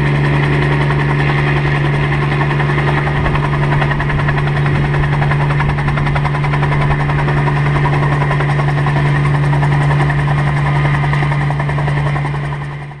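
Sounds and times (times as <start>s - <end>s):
helicopter engine and rotor humming: 0.0s - 13.0s.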